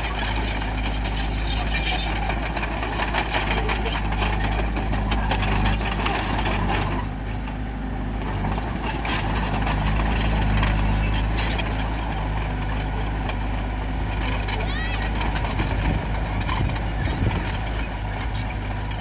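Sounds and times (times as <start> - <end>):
bulldozer diesel engine running: 0.0 - 19.0
clanking and rattling: 0.0 - 19.0.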